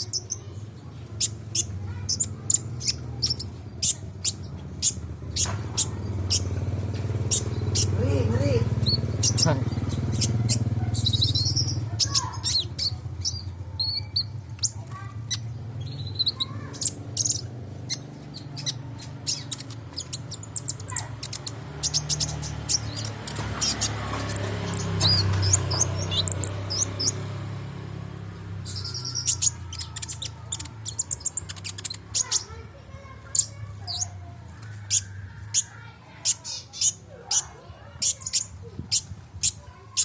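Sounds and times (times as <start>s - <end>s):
bird chirping and trilling: 0.0s - 40.0s.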